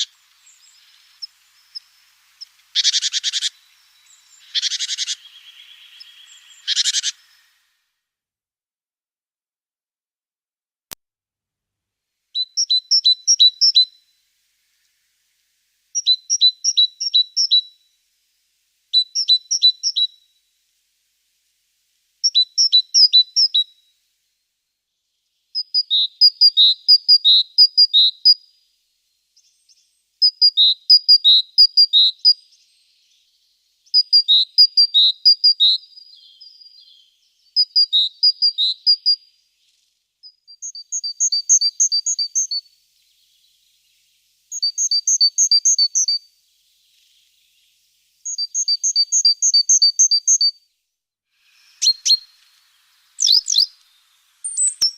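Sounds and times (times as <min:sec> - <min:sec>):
bird singing see-saw notes: 0:00.0 - 0:07.9, 0:12.3 - 0:54.9.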